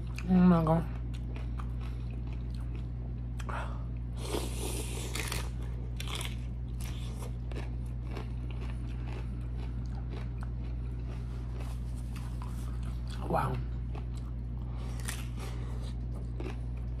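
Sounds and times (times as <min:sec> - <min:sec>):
low hum: 0:00.0 - 0:17.0
crunchy food chewing: 0:00.9 - 0:17.0.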